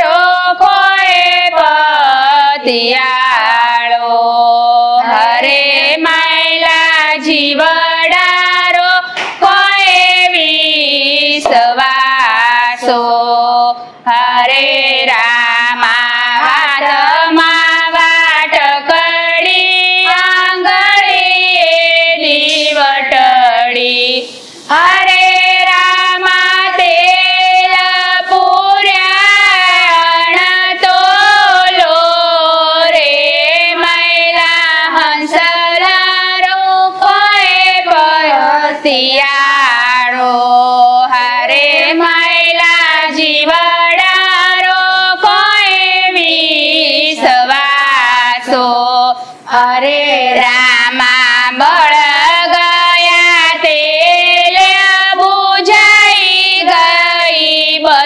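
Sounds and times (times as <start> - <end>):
women singing devotional song: 0.0 - 58.0.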